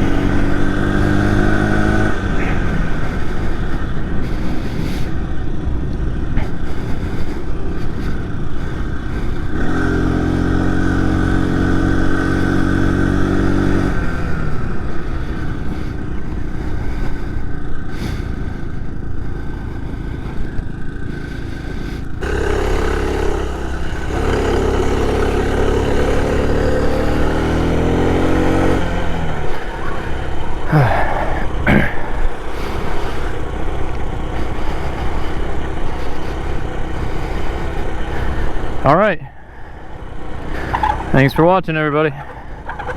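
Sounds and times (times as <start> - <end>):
small motorbike engine running: 0.0 - 42.9
wind and road noise: 0.0 - 42.9.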